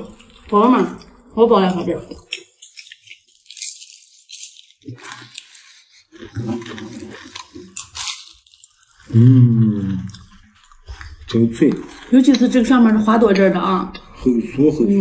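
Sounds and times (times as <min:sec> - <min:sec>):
crunching fried food: 0:00.0 - 0:12.4.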